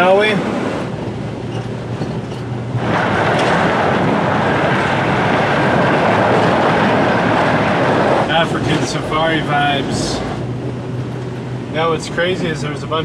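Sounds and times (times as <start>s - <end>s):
tyre and wind noise: 0.0s - 11.8s
truck engine hum: 0.0s - 13.0s.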